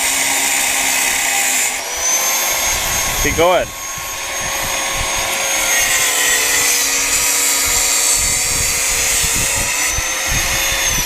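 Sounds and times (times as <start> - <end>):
angle grinder cutting steel: 0.0 - 11.0.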